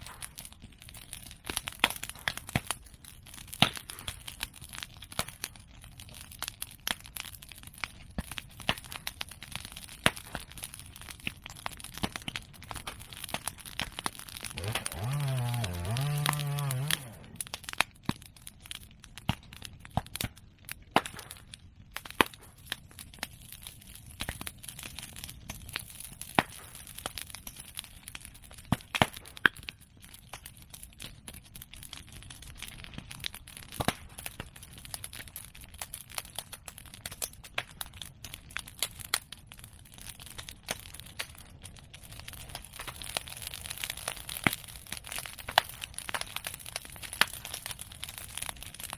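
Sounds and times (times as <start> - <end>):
bonfire crackling and popping: 0.0 - 48.9.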